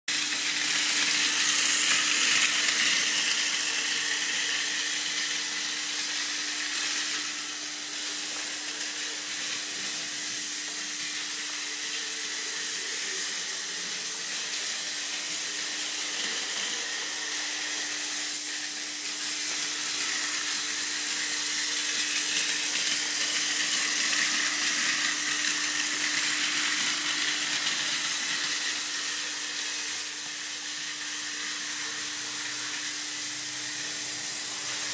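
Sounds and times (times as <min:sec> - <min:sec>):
toy train motor whirring: 0:00.1 - 0:34.9.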